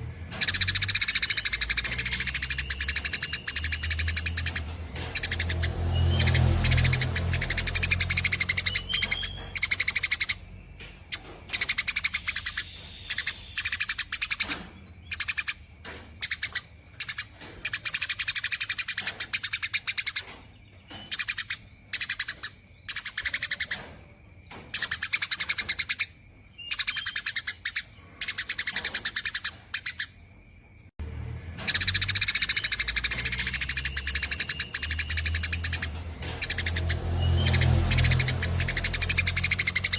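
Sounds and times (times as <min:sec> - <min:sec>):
sparrow chattering in buzzy trills: 0:00.3 - 0:30.6, 0:31.6 - 0:39.9.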